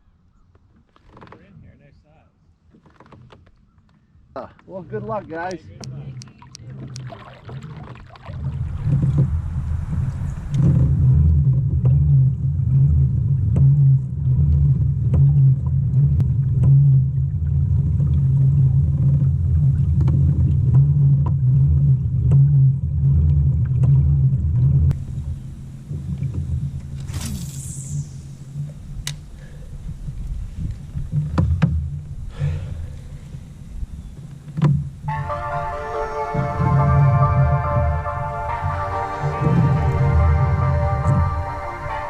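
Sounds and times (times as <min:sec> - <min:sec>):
kayak drive rumble: 0:02.6 - 0:42.0.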